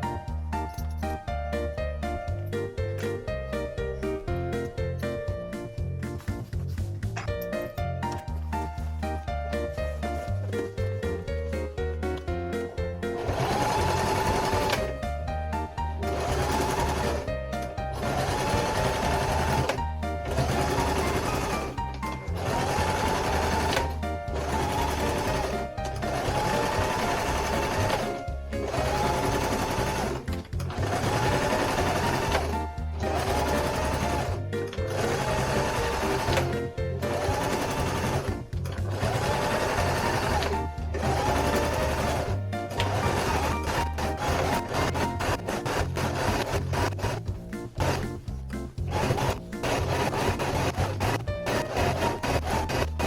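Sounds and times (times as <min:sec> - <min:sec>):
looping background music: 0:00.0 - 0:53.0
sewing machine stitching: 0:09.6 - 0:53.0.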